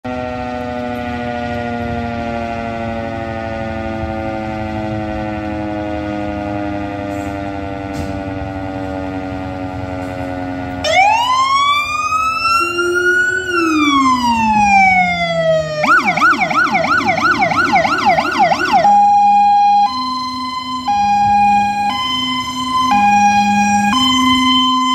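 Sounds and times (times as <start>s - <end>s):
fire engine electronic siren: 0.0s - 24.9s
fire station siren winding down: 0.0s - 24.9s.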